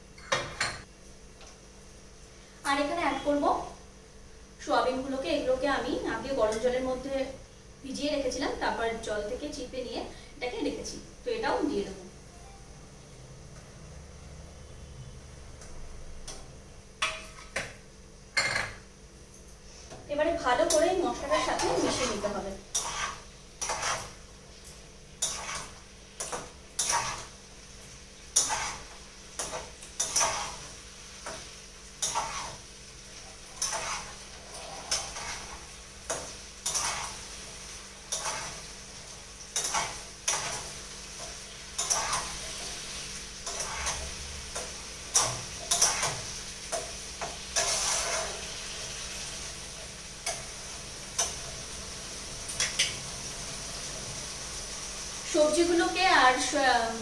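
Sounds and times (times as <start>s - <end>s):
faint steady sizzle: 0.0s - 57.0s.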